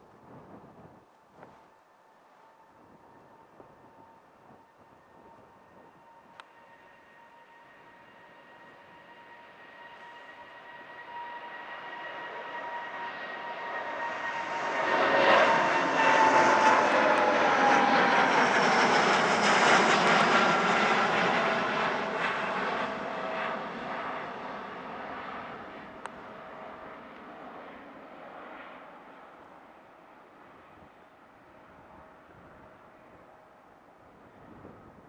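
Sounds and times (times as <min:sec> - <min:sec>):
airliner engines passing by: 0:00.0 - 0:35.0.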